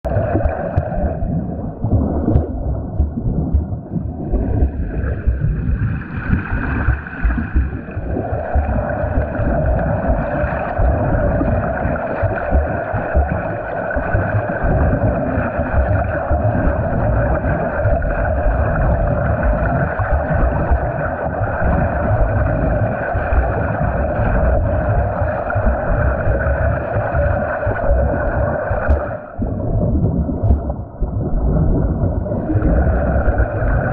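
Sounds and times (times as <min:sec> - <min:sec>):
steady hum: 0:00.0 - 0:33.9
water churning and splashing: 0:00.0 - 0:33.9.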